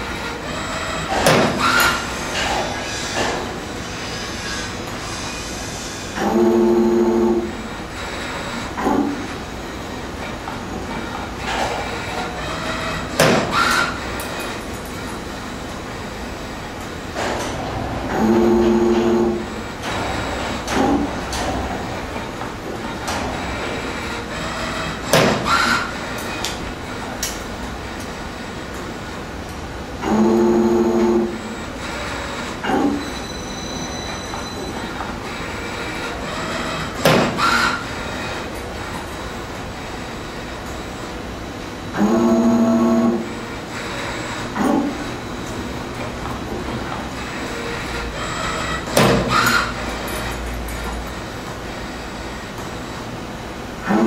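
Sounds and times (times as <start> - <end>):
bursts of mechanical noise: 0.0 - 54.0
loud machine hum: 0.0 - 54.0.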